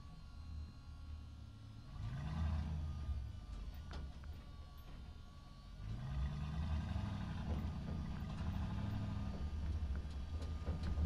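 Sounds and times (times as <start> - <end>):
truck engine accelerating: 1.8 - 11.0.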